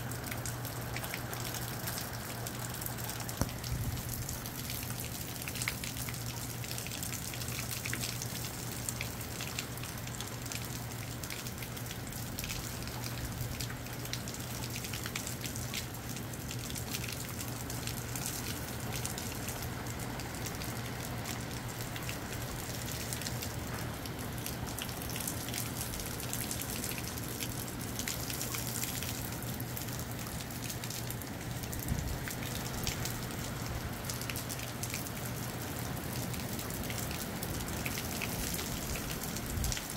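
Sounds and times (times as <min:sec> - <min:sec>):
constant low hum: 0:00.0 - 0:39.9
rain falling: 0:00.0 - 0:39.9.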